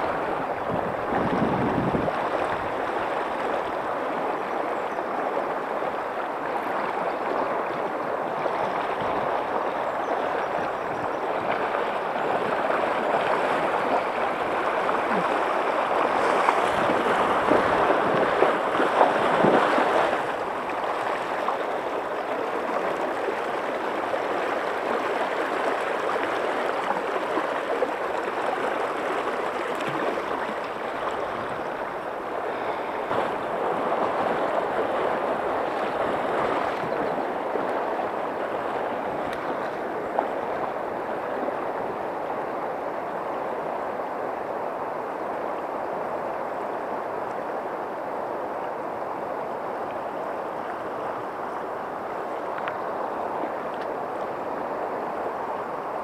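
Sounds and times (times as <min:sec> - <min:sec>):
river rushing over gravel: 0:00.0 - 0:45.2.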